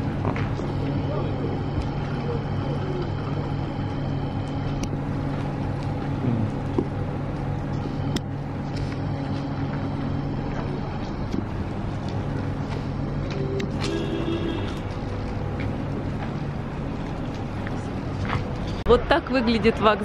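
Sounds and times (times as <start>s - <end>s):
train machinery humming: 0.0s - 20.0s.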